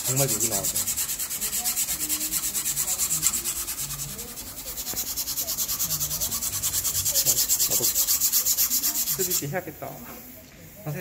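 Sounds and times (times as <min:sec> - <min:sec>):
sandpaper rubbing on plastic: 0:00.0 - 0:09.6.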